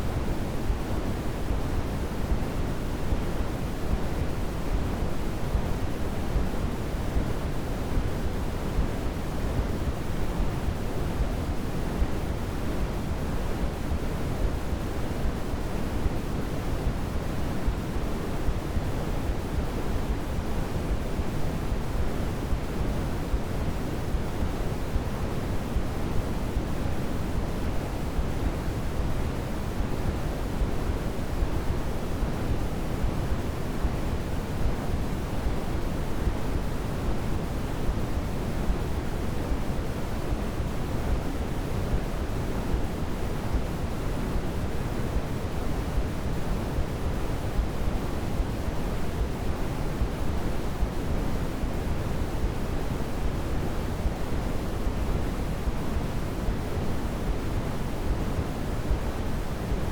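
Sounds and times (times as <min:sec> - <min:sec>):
low white noise: 0:00.0 - 0:59.9.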